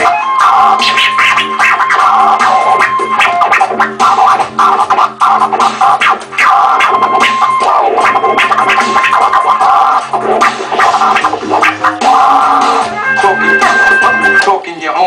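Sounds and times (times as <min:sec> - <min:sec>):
looped hip-hop beat: 0:00.0 - 0:14.6
turntable scratching: 0:00.0 - 0:15.0.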